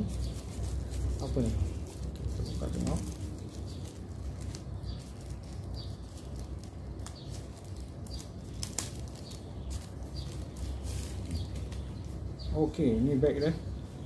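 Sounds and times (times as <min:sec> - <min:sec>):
wrapper crinkling: 0:00.0 - 0:12.2
steady low hum: 0:00.0 - 0:14.0.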